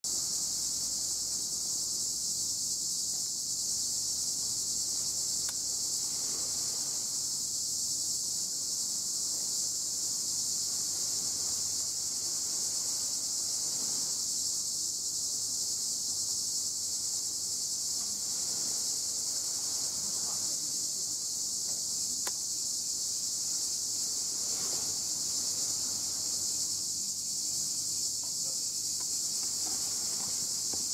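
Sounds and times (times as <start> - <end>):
cicadas buzzing: 0.0 - 30.9.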